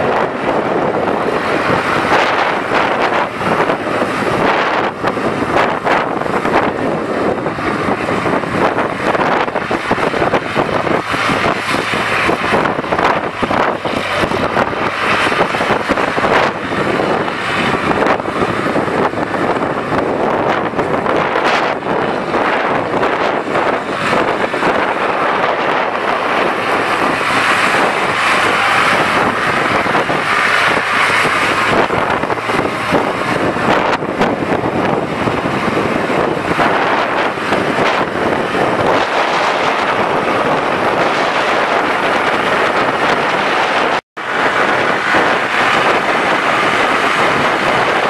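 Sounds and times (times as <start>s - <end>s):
tires on gravel: 0.0s - 48.0s
tractor engine running: 0.0s - 48.0s
wind buffeting microphone: 0.0s - 48.0s.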